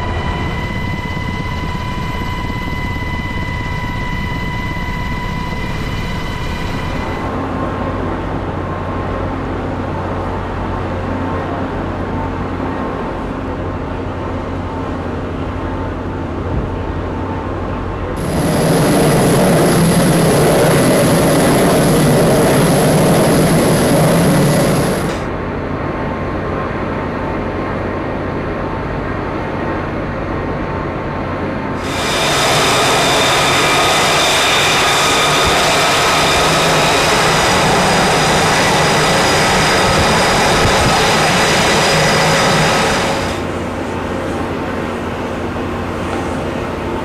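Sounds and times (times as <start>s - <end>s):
jet engine roar with high whine: 0.0s - 47.0s.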